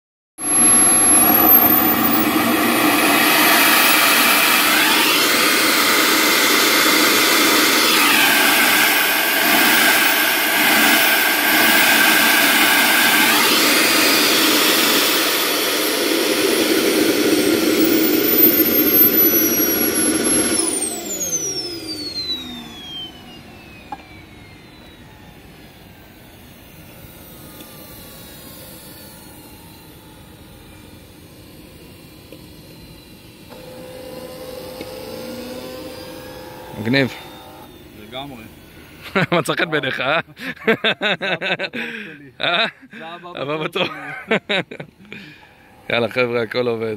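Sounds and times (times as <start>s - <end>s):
model jet turbine whine: 0.4s - 46.9s.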